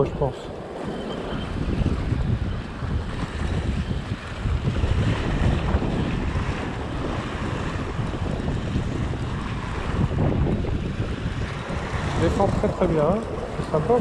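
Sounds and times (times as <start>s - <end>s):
sea surf against rocks: 0.0s - 14.0s
wind buffeting microphone: 0.0s - 14.0s.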